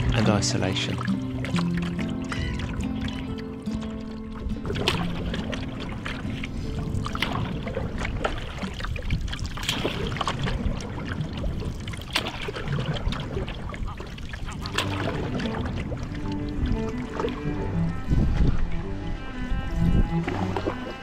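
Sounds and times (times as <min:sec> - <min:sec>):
water dripping off paddle: 0:00.0 - 0:17.7
paddle splashing water: 0:00.0 - 0:21.0.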